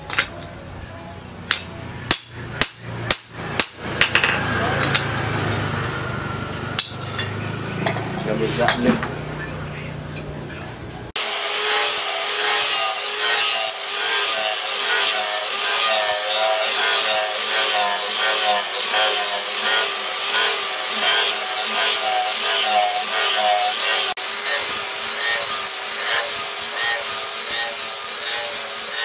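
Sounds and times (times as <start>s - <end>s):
angle grinder grinding steel: 1.5s - 9.5s, 11.2s - 29.0s.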